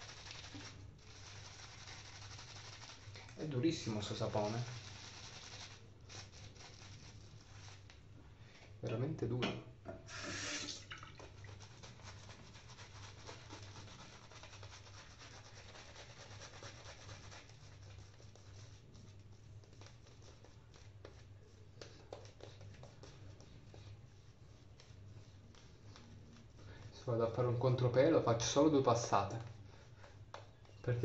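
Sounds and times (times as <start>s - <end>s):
shaving brush rubbing lather: 0.0s - 8.1s, 11.3s - 30.8s.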